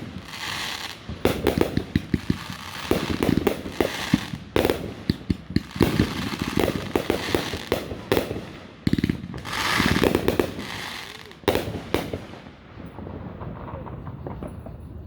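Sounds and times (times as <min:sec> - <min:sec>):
fireworks crackling hiss: 0:00.0 - 0:12.8
fireworks bangs: 0:00.0 - 0:15.0.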